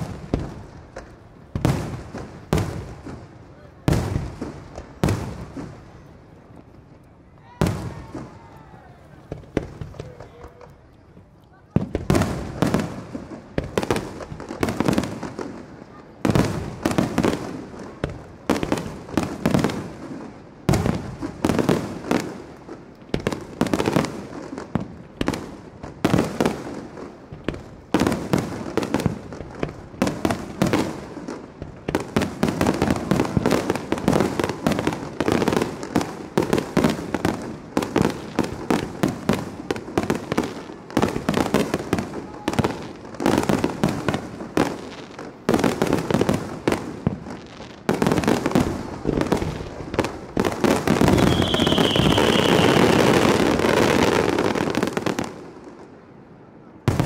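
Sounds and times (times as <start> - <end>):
fireworks bursting: 0.0 - 56.2, 56.8 - 57.0
fireworks crackling: 0.0 - 57.0.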